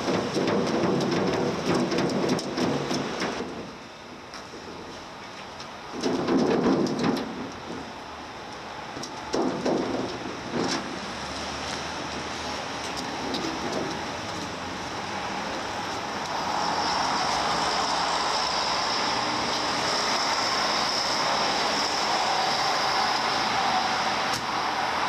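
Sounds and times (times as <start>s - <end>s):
street traffic: 0.0s - 25.0s
vehicle engine: 0.0s - 25.0s.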